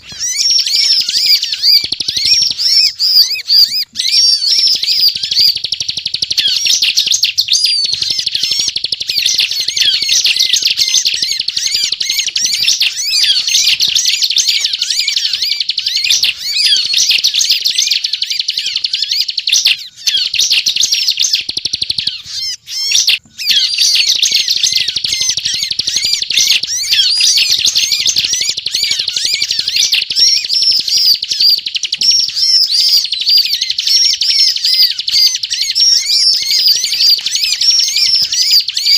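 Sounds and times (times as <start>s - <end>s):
bird singing fast high chirps: 0.0s - 38.9s.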